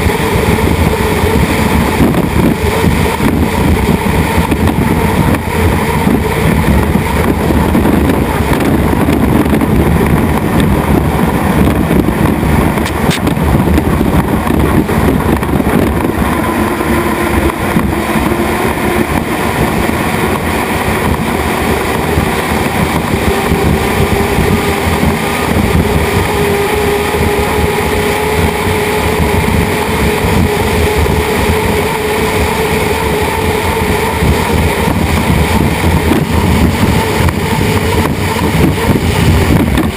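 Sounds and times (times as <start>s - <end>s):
hydroplane racing rush: 0.0s - 39.9s
wind noise: 0.0s - 39.9s.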